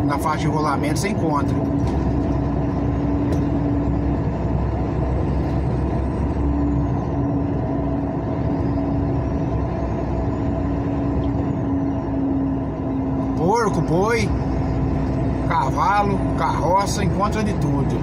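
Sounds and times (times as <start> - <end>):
low hum: 0.0 - 18.0
road noise: 0.0 - 18.0
vehicle engine drone: 0.0 - 18.0.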